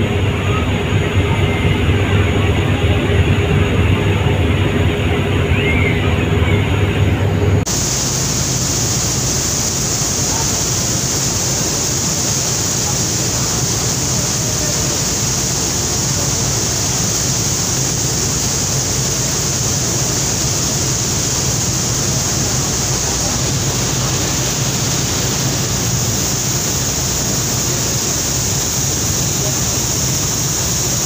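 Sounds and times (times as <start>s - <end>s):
boat engine droning: 0.0s - 31.0s
water churned by propellers: 0.0s - 31.0s.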